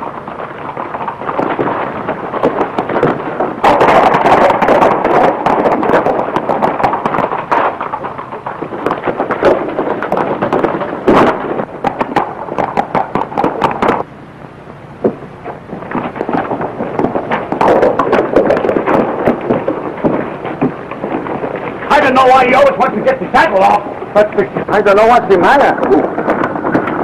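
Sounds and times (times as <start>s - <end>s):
film soundtrack hiss: 0.0s - 27.0s
horses galloping: 0.0s - 27.0s.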